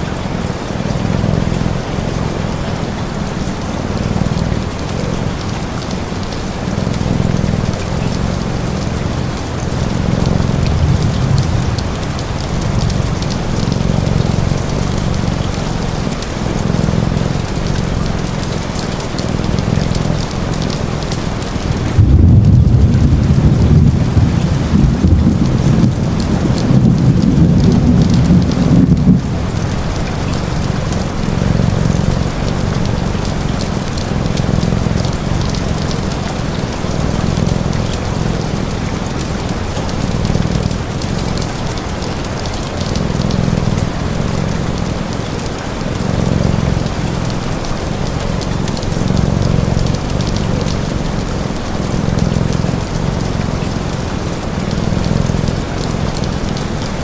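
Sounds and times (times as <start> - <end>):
low rumble of thunder: 0.0 - 56.8
steady rain: 0.0 - 57.0
cat purring: 0.1 - 57.0.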